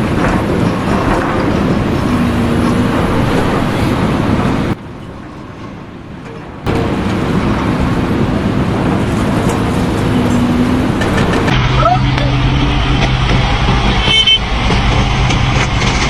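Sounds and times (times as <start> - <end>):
loud machinery noise: 0.0 - 16.0.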